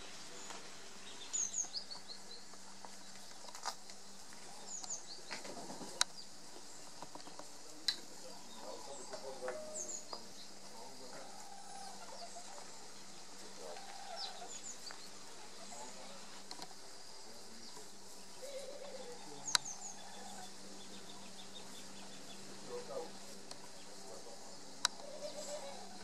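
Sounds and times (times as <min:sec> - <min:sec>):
faint steady hum: 0:00.0 - 0:26.0
small birds chirping: 0:00.0 - 0:26.0.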